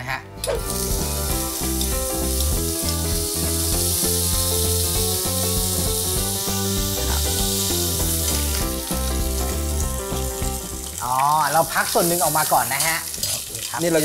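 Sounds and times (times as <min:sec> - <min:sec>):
background music: 0:00.0 - 0:14.0
bacon sizzling in pan: 0:00.4 - 0:14.0.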